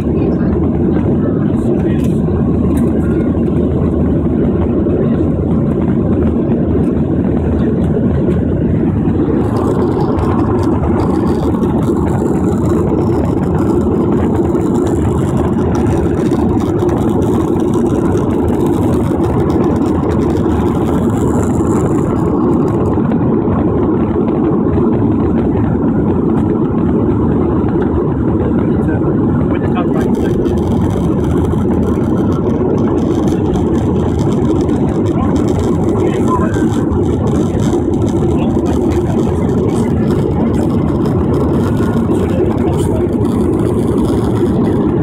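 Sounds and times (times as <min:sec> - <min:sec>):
jet engine and airflow in cabin: 0:00.0 - 0:45.0.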